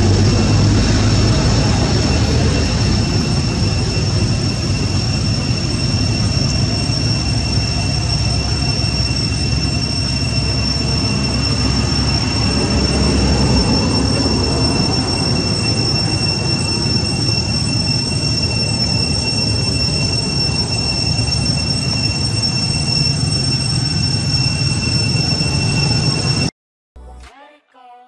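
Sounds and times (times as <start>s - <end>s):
high-pitched two-tone whine: 0.0s - 26.5s
rough rumbling rush of noise: 0.0s - 26.5s.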